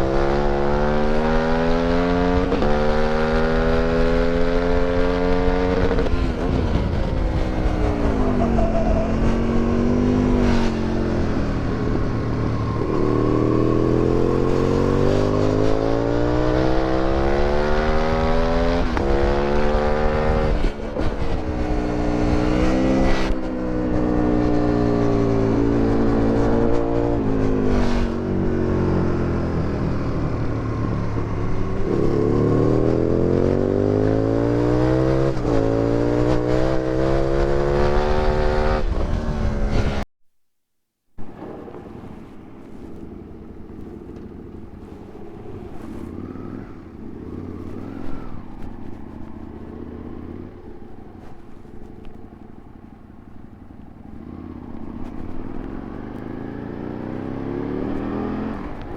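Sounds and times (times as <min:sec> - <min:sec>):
motorcycle engine revving hard: 0:00.0 - 0:40.0, 0:41.3 - 0:52.0, 0:54.1 - 0:58.9.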